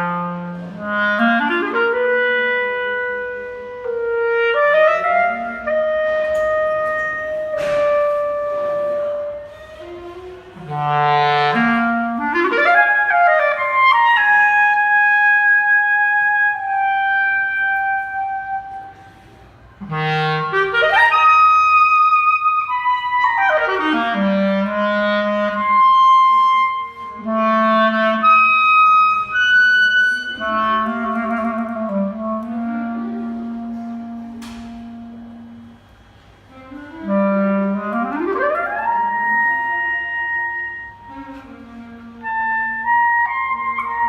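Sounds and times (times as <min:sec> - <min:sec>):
solo clarinet playing: 0:00.0 - 0:44.0.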